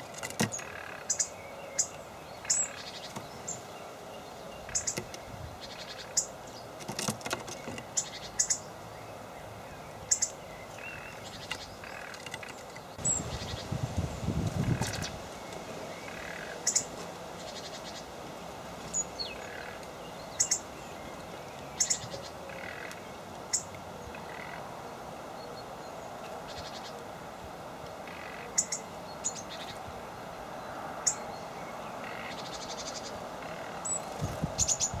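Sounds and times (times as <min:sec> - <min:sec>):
small birds chirping: 0:00.0 - 0:35.0
steady background hiss: 0:00.0 - 0:35.0.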